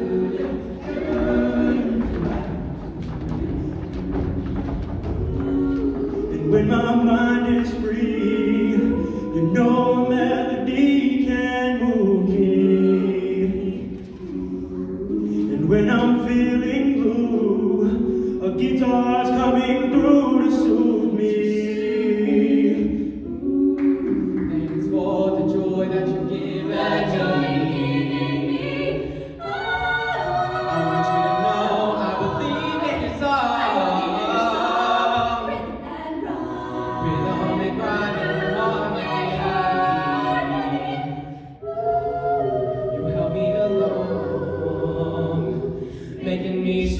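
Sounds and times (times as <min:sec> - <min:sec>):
a cappella group singing in harmony: 0:00.0 - 0:46.9.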